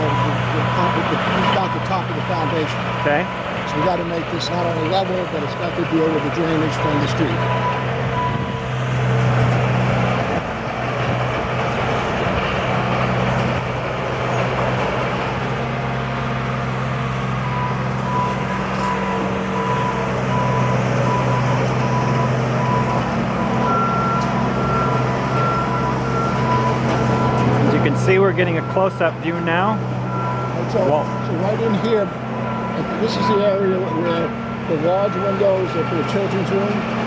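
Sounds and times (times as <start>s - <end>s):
backup alarm beeping: 0.0s - 10.3s, 17.0s - 36.7s
higher-pitched backup alarm: 0.0s - 10.6s, 16.3s - 36.7s
machinery engine running: 0.0s - 37.0s.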